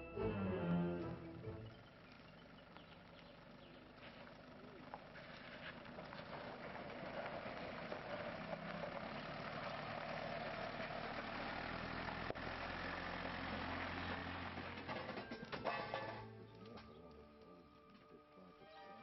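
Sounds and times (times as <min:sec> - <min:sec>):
truck engine at low speed: 0:00.0 - 0:17.2
tyres crunching on gravel: 0:01.0 - 0:18.7.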